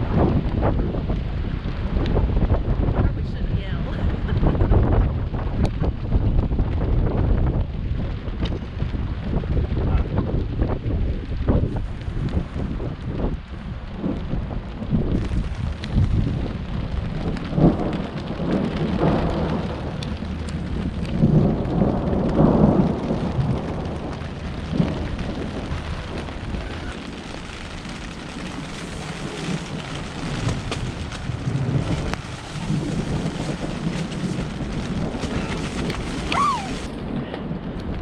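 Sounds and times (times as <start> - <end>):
low rumbling thunder: 0.0 - 38.0
rain pelting a tent: 0.0 - 38.0
wind gusts shaking tent: 0.0 - 38.0.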